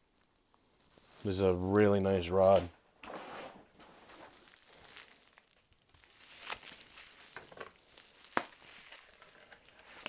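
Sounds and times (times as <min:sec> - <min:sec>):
plastic packaging crinkling: 0:00.0 - 0:02.8, 0:03.8 - 0:10.0.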